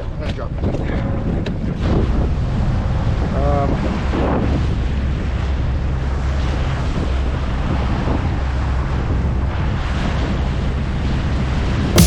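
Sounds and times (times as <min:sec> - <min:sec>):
wind buffeting microphone: 0:00.2 - 0:12.0.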